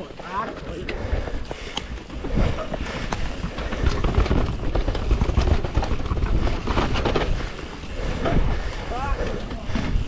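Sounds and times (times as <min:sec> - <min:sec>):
bike knocking and rattling: 0:00.0 - 0:10.0
bike tyres rolling on dirt: 0:00.0 - 0:10.0.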